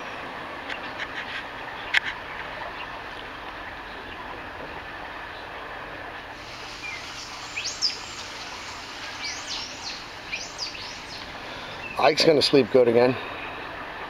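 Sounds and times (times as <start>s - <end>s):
birds chirping: 0.0s - 14.0s
outdoor background hiss: 0.0s - 14.0s.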